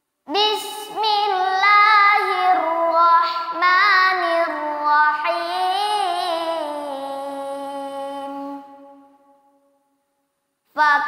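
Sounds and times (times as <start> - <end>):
boy chanting melodically: 0.3 - 9.6, 10.7 - 11.0.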